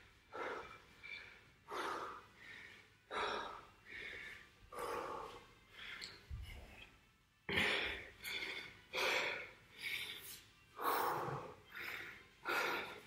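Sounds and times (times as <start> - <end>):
man breathing heavily: 0.0 - 13.0.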